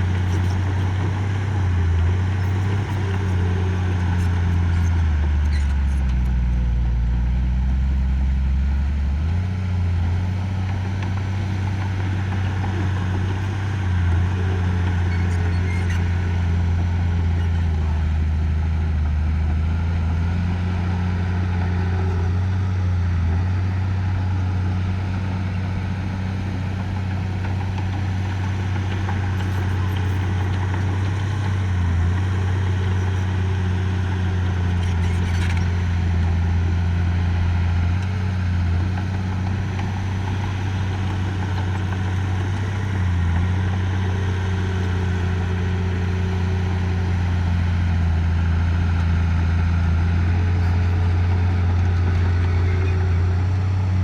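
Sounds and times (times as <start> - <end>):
heavy machine engine droning: 0.0 - 54.0.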